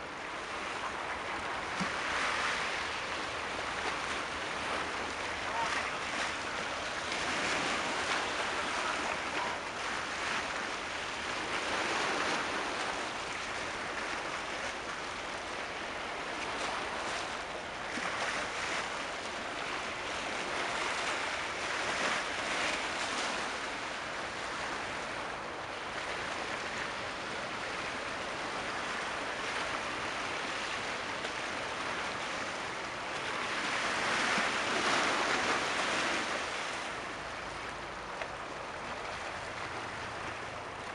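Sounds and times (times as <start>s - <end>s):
waves washing along shore: 0.0s - 40.9s.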